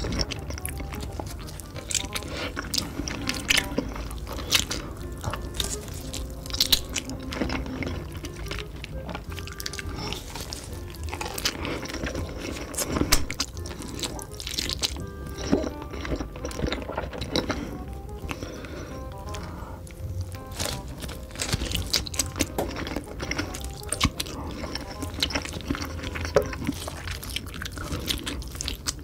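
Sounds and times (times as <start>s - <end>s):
background music: 0.0s - 29.0s
wet chewing and biting: 0.0s - 29.0s.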